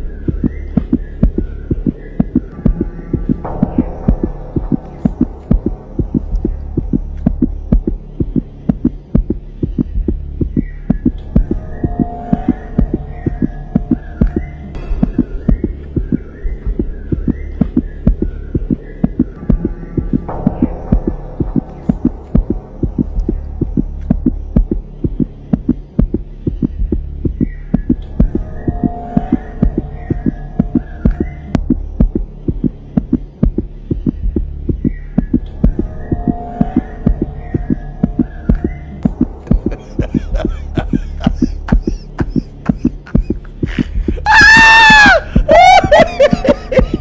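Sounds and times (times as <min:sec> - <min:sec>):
low droning hum: 0:00.0 - 0:44.3
low rhythmic thumps: 0:00.0 - 0:47.0.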